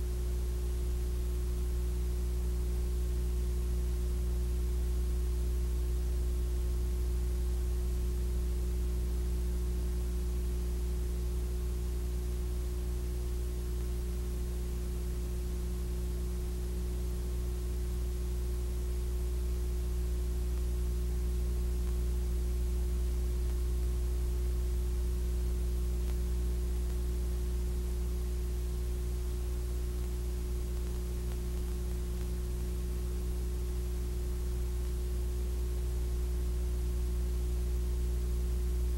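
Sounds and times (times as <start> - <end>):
faint hiss: 0.0 - 38.9
steady electrical hum: 0.0 - 38.9.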